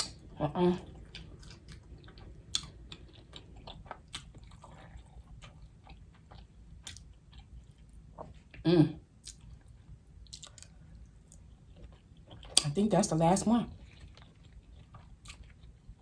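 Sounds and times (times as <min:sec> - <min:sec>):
chewing and lip-smacking: 0:00.0 - 0:08.6, 0:09.2 - 0:12.8, 0:13.7 - 0:16.0.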